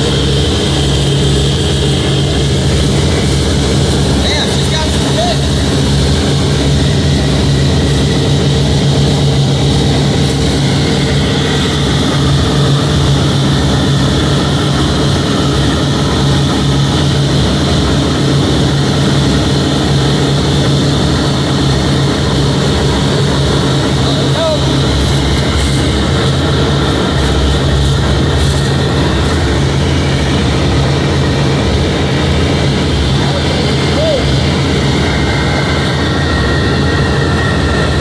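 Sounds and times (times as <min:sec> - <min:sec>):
radial aircraft engines droning: 0:00.0 - 0:38.0.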